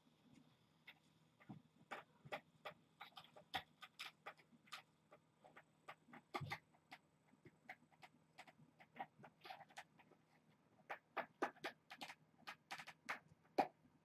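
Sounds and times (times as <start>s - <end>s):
kittens' paws tapping: 0.8s - 13.8s.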